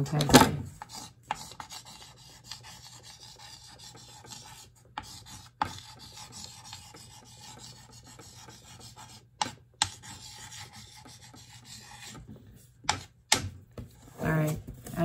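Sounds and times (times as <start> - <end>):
chalk taps: 0.0 - 15.0
chalk scratching on a chalkboard: 0.7 - 13.2.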